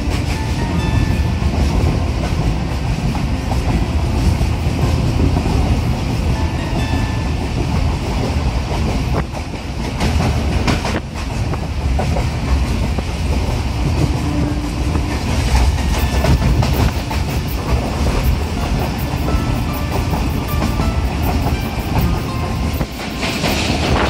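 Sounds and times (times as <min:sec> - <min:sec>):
train rumble: 0:00.0 - 0:24.0
wheels clacking over rail joints: 0:00.0 - 0:24.0.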